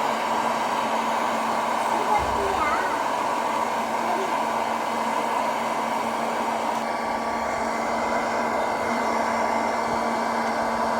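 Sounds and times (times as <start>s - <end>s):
popcorn maker fan humming: 0.0s - 10.9s.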